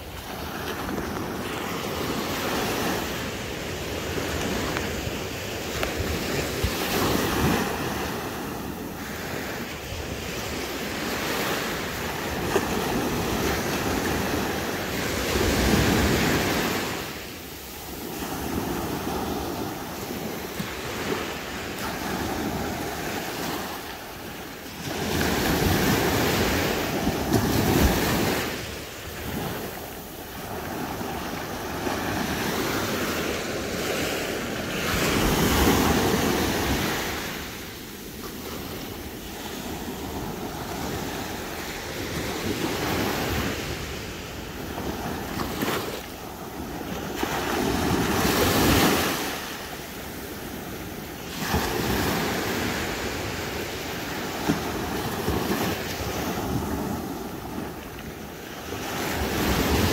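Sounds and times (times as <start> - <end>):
small waves breaking on sand: 0.0 - 59.9.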